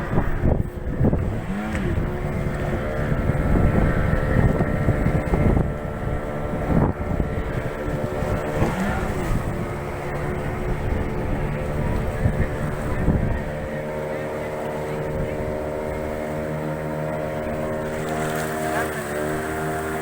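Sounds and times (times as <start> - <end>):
motorboat engine running: 0.0 - 20.0
water noise: 0.0 - 20.0
wind on microphone: 0.0 - 20.0.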